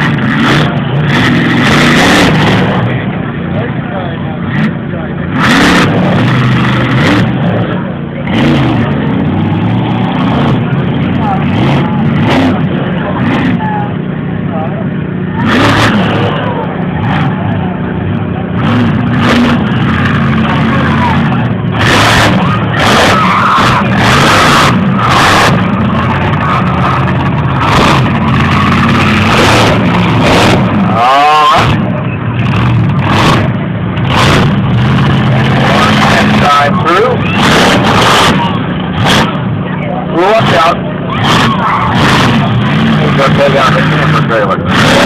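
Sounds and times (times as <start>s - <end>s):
monster truck engine revving: 0.0s - 45.0s.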